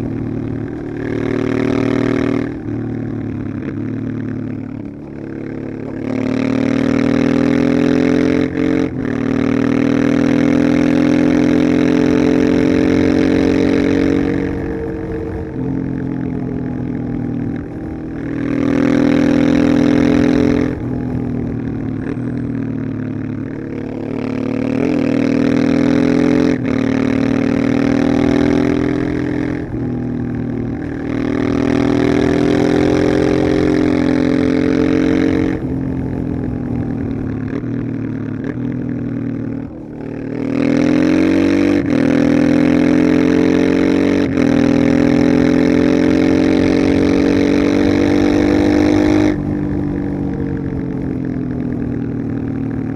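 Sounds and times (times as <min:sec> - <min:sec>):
motorcycle engine pulling hard: 0:00.0 - 0:52.9.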